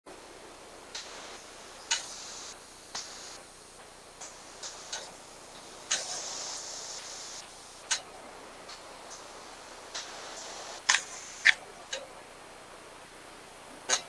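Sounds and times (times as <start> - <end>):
hiss: 0.2 - 11.6.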